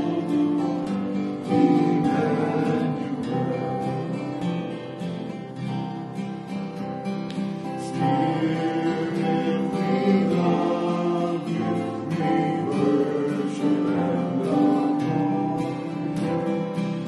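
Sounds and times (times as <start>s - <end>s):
people singing a hymn: 0.0s - 5.7s, 7.6s - 17.0s
acoustic guitar strumming: 0.0s - 17.0s.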